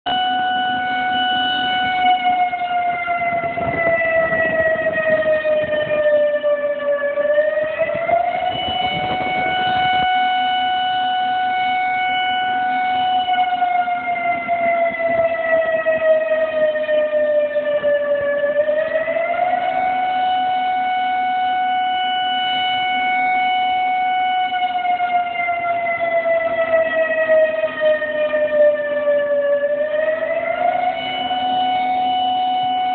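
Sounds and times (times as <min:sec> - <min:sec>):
tornado warning siren wailing: 0:00.0 - 0:32.9.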